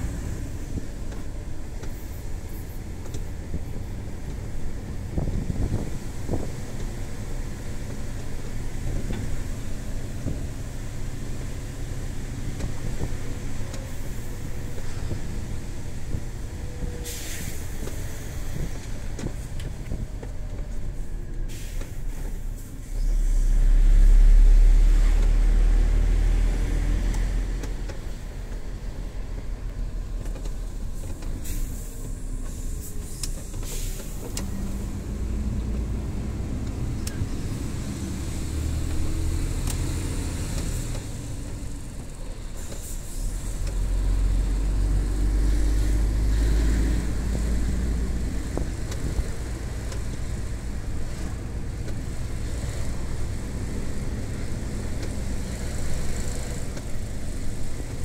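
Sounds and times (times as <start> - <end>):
truck diesel engine drone: 0.0 - 58.0.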